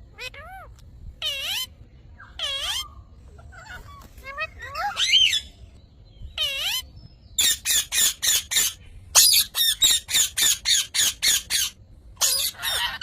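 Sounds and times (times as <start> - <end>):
parrot squawking: 0.1 - 1.7, 2.4 - 5.5, 6.4 - 13.0.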